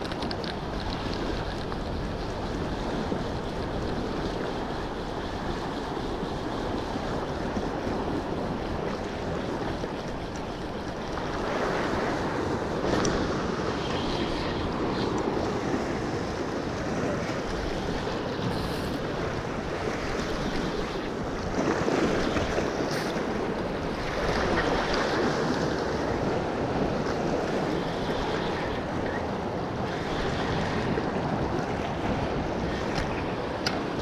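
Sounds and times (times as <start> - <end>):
surf washing over rocks: 0.0 - 34.0
wind buffeting microphone: 0.0 - 34.0.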